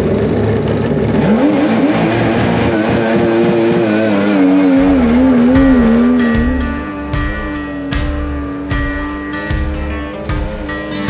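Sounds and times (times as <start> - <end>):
jet boat engine revving: 0.0 - 9.3.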